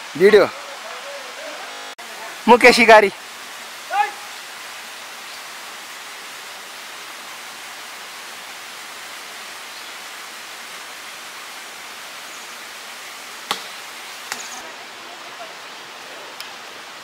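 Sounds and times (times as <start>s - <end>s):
forest stream rushing: 0.0s - 17.0s.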